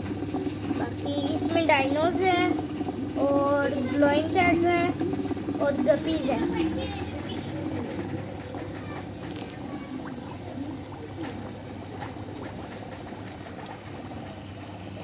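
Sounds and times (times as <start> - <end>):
air pump bubbling into water: 0.0 - 15.0
bubbles popping: 0.0 - 15.0.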